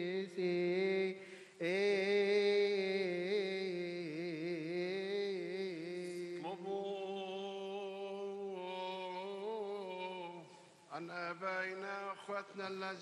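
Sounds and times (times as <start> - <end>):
man chanting wordless melisma: 0.0 - 13.0.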